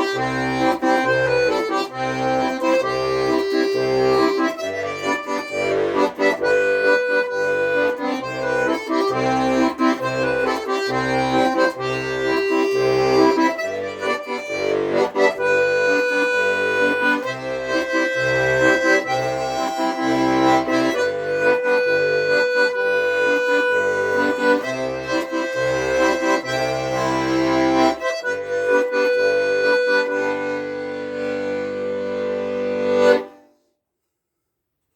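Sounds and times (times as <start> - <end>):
accordion playing a tune: 0.0 - 33.6.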